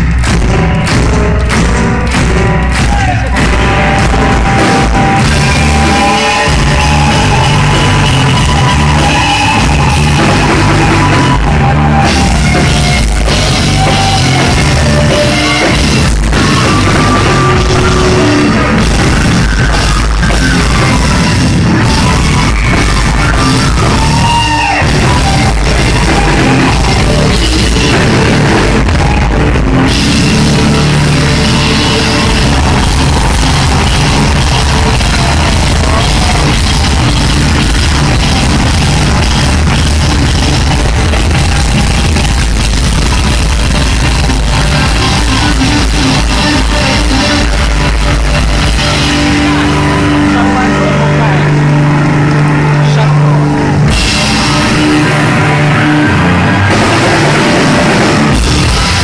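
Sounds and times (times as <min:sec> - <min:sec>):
distorted live rock band: 0:00.0 - 0:59.0
drum kit: 0:00.0 - 0:59.0
electric guitar: 0:00.0 - 0:59.0.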